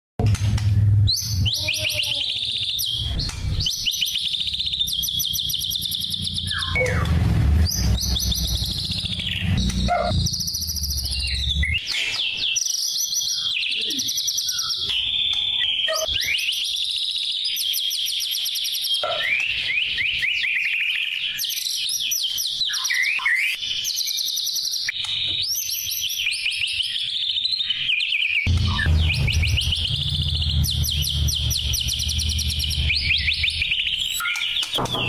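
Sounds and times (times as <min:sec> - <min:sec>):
songbird singing fast trills: 0:01.1 - 0:07.1, 0:07.7 - 0:35.0.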